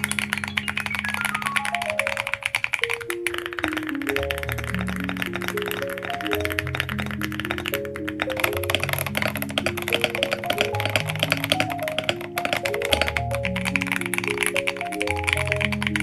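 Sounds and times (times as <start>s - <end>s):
background music: 0.0s - 16.0s
mechanical keyboard typing: 0.0s - 16.0s.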